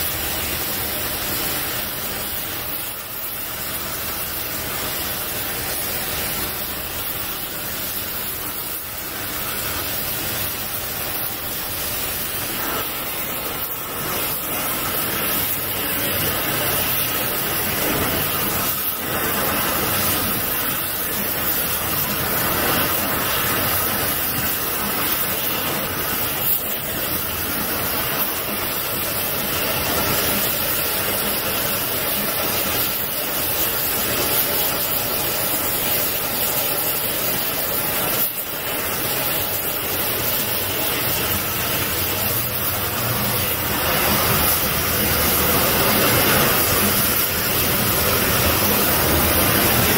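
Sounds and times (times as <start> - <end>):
gas torch hissing: 0.0 - 49.9.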